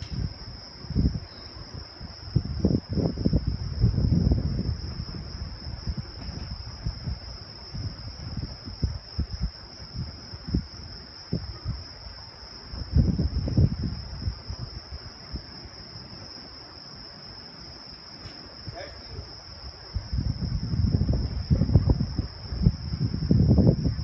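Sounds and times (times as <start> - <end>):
crickets chirring: 0.0 - 24.0.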